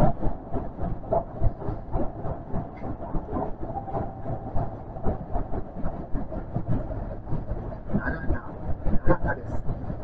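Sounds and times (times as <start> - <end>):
faint steady whine: 0.0 - 10.0
train wheels rumbling on rails: 0.0 - 10.0.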